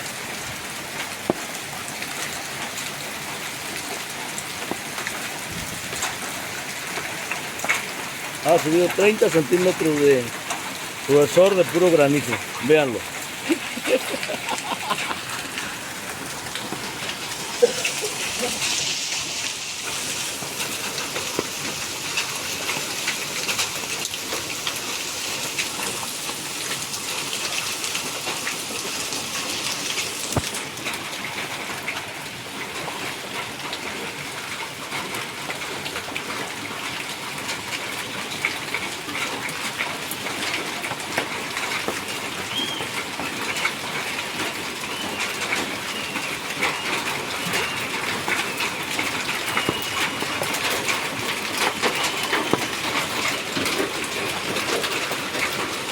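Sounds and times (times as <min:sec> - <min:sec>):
hail and rain falling: 0:00.0 - 0:55.9
hailstones ticking: 0:00.0 - 0:55.9.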